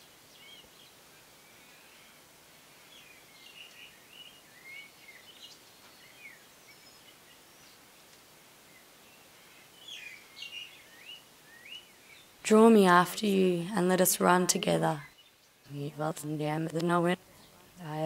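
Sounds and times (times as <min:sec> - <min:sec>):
birds chirping: 0:00.0 - 0:08.0, 0:08.6 - 0:18.0
faint steady hiss: 0:00.0 - 0:18.0.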